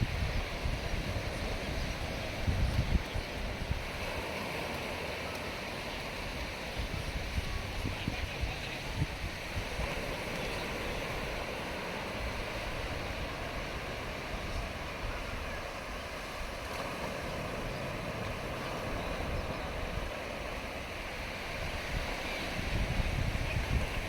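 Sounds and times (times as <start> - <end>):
wind buffeting microphone: 0.0 - 5.2, 6.0 - 24.0
ocean waves washing in: 0.0 - 24.0.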